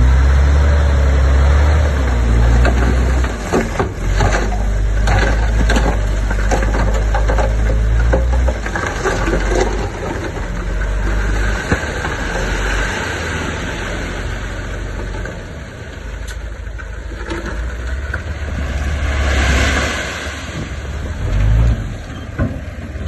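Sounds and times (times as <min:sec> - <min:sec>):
heavy machinery engine rumble: 0:00.0 - 0:23.0.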